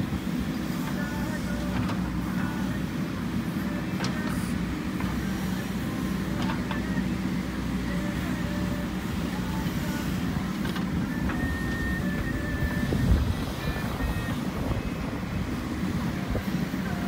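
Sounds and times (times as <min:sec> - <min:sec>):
backhoe diesel engine running: 0:00.0 - 0:17.0.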